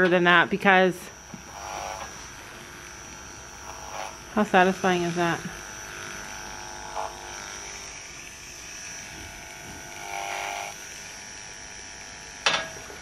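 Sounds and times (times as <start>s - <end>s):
electric clippers whining: 0.0s - 13.0s.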